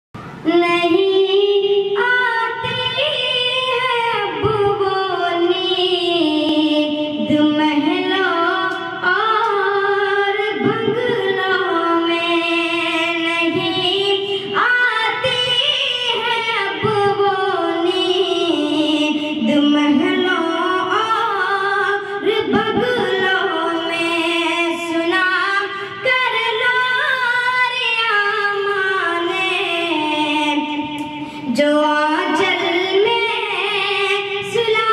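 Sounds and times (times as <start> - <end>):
boy singing into a microphone: 0.2 - 34.9.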